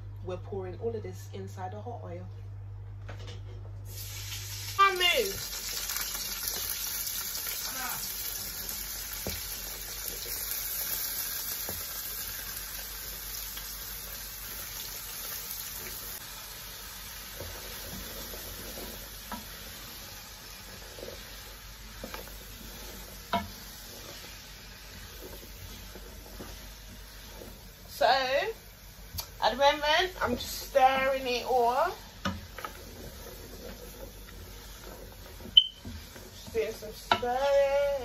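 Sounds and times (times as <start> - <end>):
vegetables sizzling in hot oil: 3.9 - 38.0.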